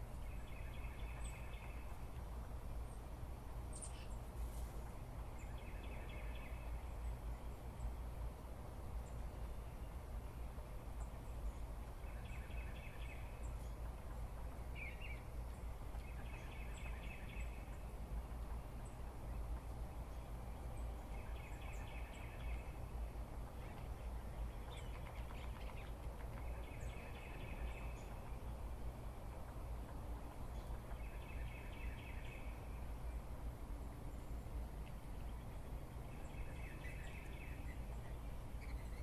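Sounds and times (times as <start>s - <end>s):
low breeze rumble: 0.0s - 39.0s.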